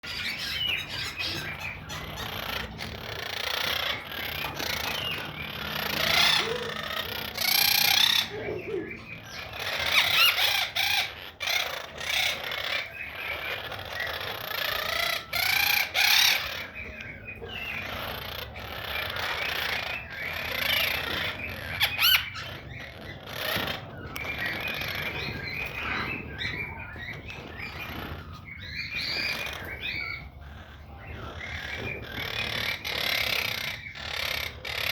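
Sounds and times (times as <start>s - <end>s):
parrot chattering and squawking: 0.0s - 34.9s.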